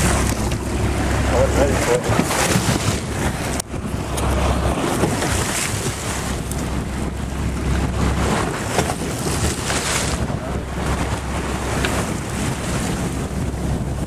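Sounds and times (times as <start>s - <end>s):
water splashing against boat: 0.0s - 14.0s
wind buffeting microphone: 0.0s - 14.0s.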